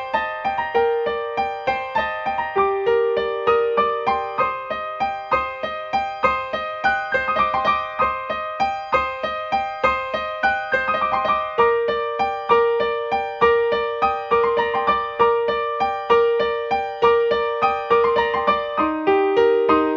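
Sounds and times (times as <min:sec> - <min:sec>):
flowing piano notes: 0:00.0 - 0:19.9.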